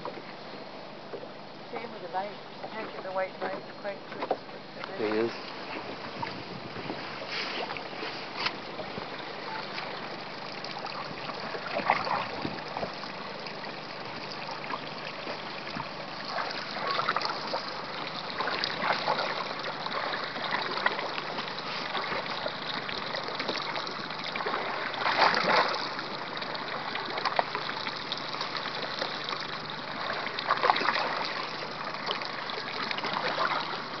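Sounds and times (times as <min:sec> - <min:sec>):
small waves lapping against boat: 0:00.0 - 0:34.0
water splash: 0:05.0 - 0:34.0.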